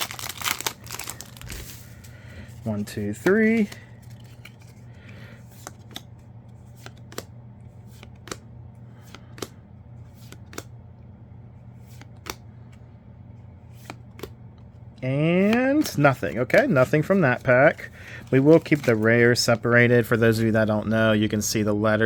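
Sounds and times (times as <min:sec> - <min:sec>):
cards being flipped: 0:00.0 - 0:10.8, 0:11.7 - 0:12.8, 0:13.6 - 0:19.5
steady low hum: 0:00.0 - 0:22.0.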